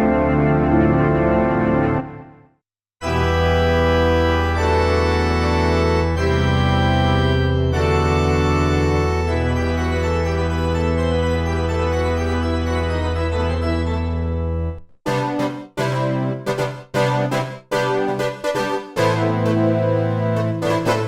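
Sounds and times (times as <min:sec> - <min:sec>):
synthesizer organ chords: 0:00.0 - 0:02.4, 0:03.0 - 0:21.0.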